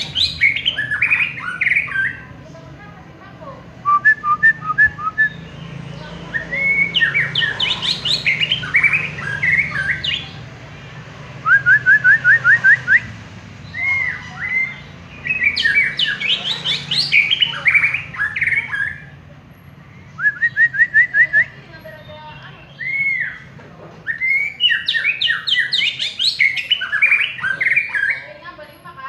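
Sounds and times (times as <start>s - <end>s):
songbird whistling and trilling: 0.0s - 2.3s, 3.8s - 10.4s, 11.4s - 19.2s, 20.0s - 28.4s.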